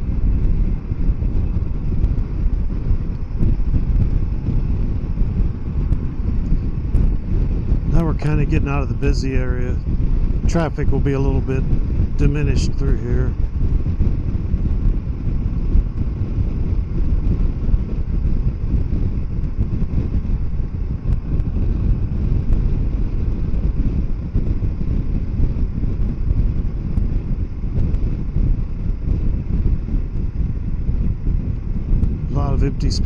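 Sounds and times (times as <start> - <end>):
road noise: 0.0 - 33.0
wind buffeting microphone: 0.0 - 33.0.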